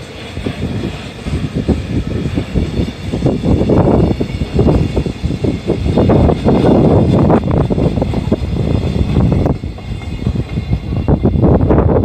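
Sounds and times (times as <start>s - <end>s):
train clatter and knocks: 0.0s - 12.0s
train wheels rumbling on rail: 0.0s - 12.0s.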